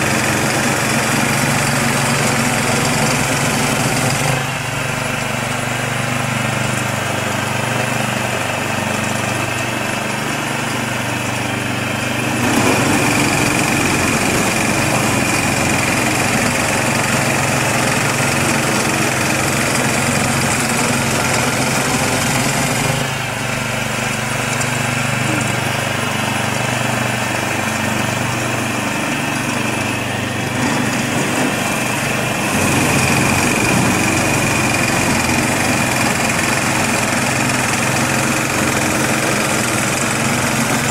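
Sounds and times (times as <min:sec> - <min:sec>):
snow blower engine running: 0:00.0 - 0:40.9.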